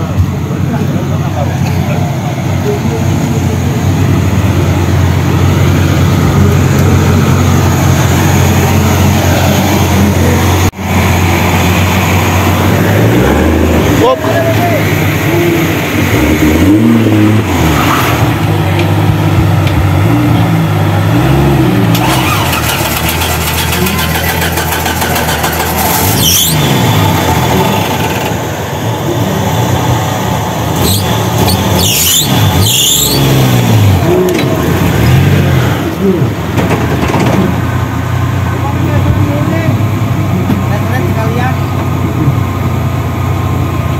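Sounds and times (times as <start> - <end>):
racing buggy engines revving: 0.0 - 43.9.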